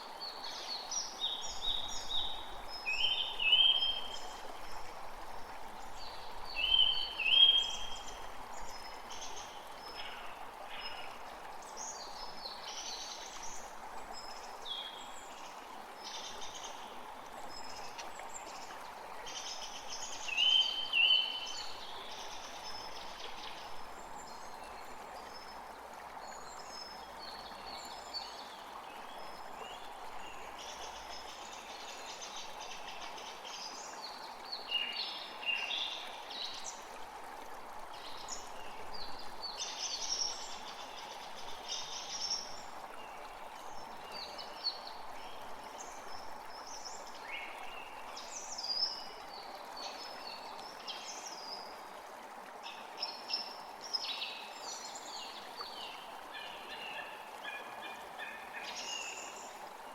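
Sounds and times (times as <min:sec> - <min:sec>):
forest creek flowing: 0:00.0 - 0:59.9.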